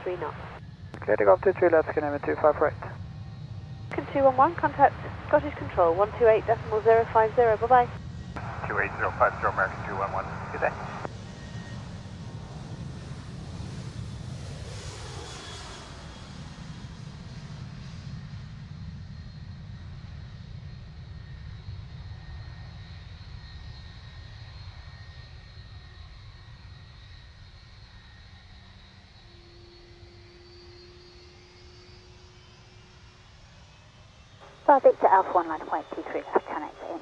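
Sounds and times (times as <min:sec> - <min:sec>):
jet airliner passing: 0:00.0 - 0:23.5, 0:24.2 - 0:37.0.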